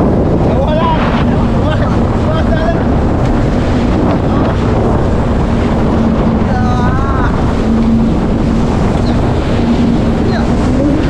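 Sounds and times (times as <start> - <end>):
jet ski engine drone: 0.0 - 11.0
rushing water spray: 0.0 - 11.0
wind buffeting microphone: 0.0 - 11.0.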